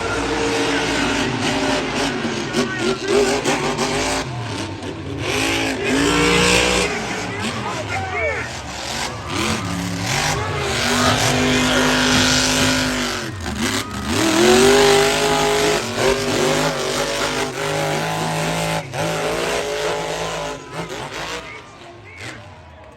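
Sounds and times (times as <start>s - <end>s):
noisy rush: 0.0s - 22.9s
truck engines revving: 0.0s - 22.9s.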